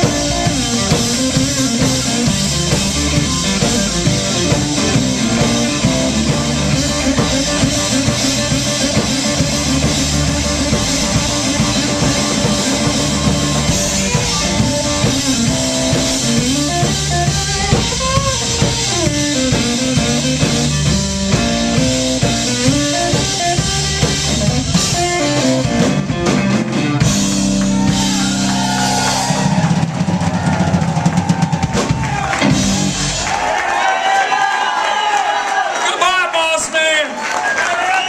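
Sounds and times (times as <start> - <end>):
lead guitar line: 0.0 - 30.7, 31.8 - 33.4
bass guitar: 0.0 - 33.6
drum kit: 0.0 - 34.4.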